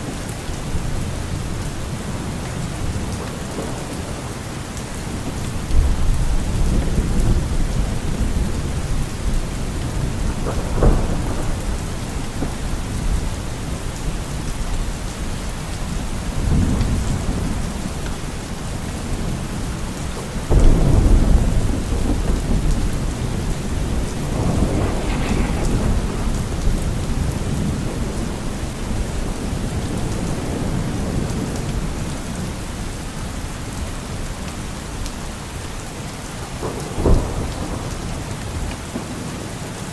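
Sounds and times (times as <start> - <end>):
steady rain: 0.0 - 39.9
low rolls of thunder: 0.6 - 19.7, 20.4 - 32.8, 36.4 - 39.5.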